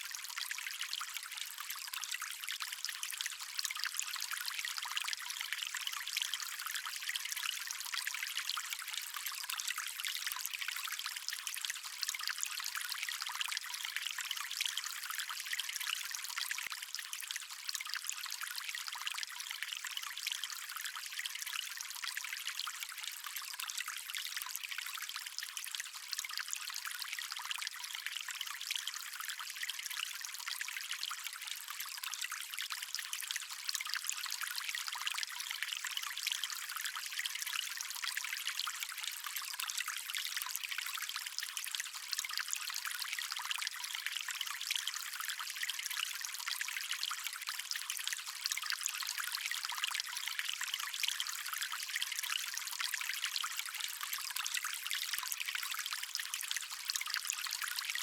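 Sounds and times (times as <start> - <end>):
water stream trickling: 0.0 - 58.0.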